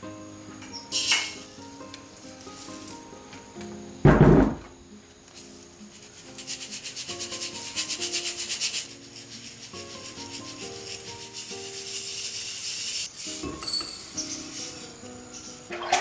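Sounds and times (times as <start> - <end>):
soft melodic background music: 0.0 - 4.1, 4.8 - 16.0
rhythmic scraping strokes: 0.8 - 3.2, 5.3 - 16.0.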